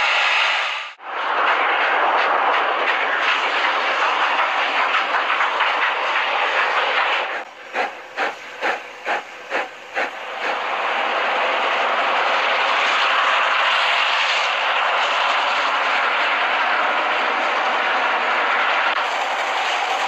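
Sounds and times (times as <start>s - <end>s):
snowplow blowing snow: 0.0s - 20.0s
steam hissing: 0.0s - 20.0s
steam locomotive exhaust chuffs: 0.0s - 20.0s.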